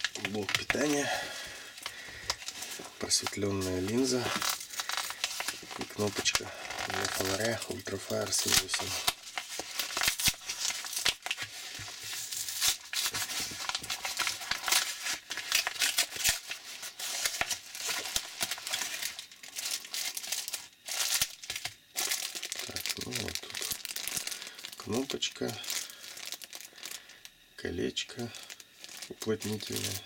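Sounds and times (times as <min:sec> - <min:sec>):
plastic packaging crinkling: 0:00.0 - 0:27.3, 0:28.0 - 0:30.0.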